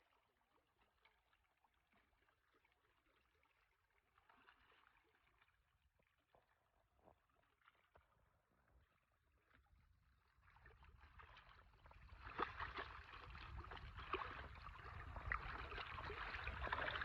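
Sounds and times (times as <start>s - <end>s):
faint water lapping at shore: 0.0s - 17.0s.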